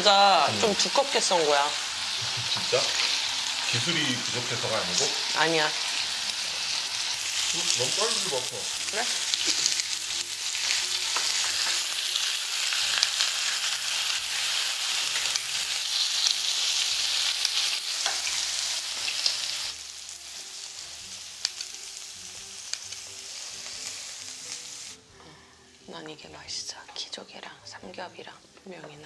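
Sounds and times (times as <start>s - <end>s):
meat sizzling on a griddle: 0.0s - 25.0s.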